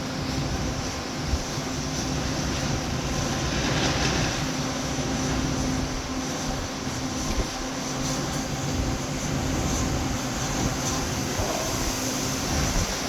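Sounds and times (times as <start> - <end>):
constant rushing noise: 0.0 - 13.0.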